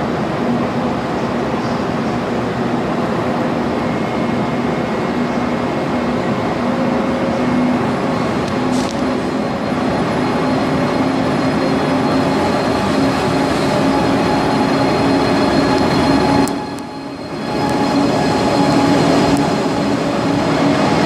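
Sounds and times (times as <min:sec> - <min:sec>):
train running hum: 0:00.0 - 0:21.0.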